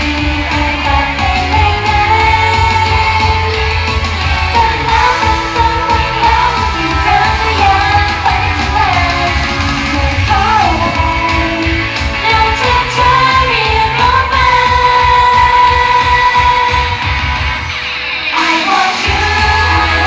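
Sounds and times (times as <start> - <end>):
pop song with woman singing: 0.0 - 20.0.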